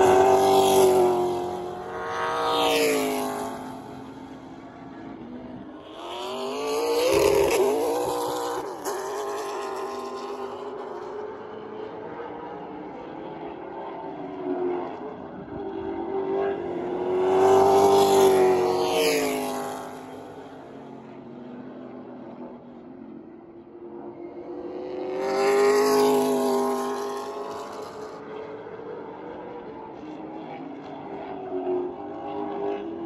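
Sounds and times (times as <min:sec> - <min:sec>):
distant engines around track: 0:00.0 - 0:33.0
race car engines passing: 0:00.0 - 0:33.0.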